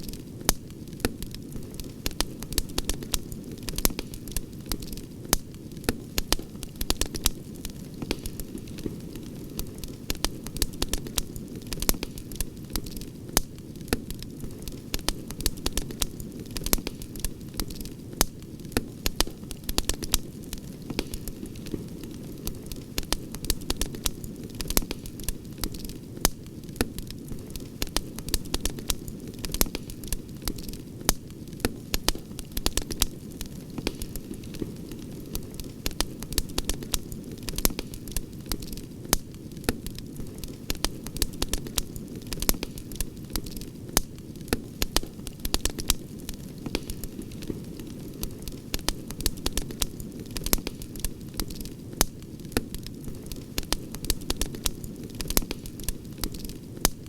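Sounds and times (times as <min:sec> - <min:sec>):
campfire crackling and popping: 0:00.0 - 0:57.0
low rumble of flames: 0:00.0 - 0:57.0.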